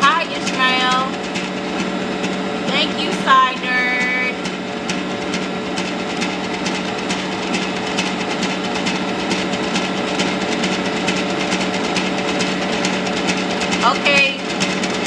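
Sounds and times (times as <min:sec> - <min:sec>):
stand mixer motor hum: 0:00.0 - 0:15.0.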